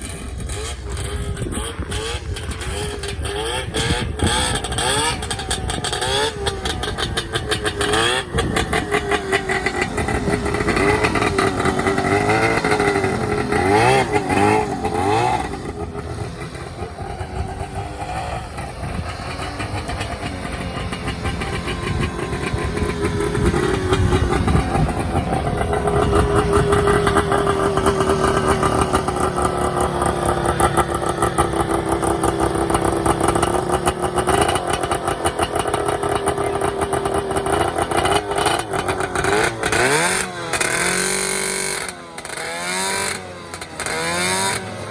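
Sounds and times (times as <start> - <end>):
snowmobile two-stroke engine revving: 0.0 - 44.9.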